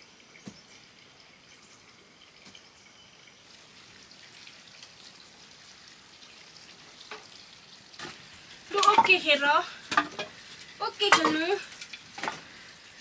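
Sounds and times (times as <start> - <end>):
wood fire crackling and hissing: 0.0 - 13.0.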